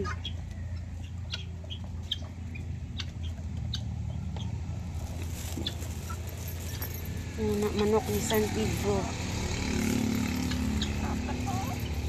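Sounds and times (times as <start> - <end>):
chickens clucking: 0.0 - 6.3, 7.5 - 9.1, 9.7 - 12.0.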